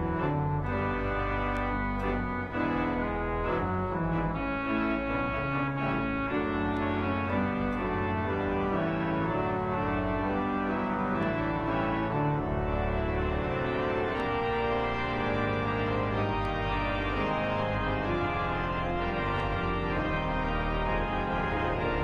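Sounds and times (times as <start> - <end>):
church organ chords: 0.0 - 22.0
deep organ pedal bass: 0.0 - 22.0.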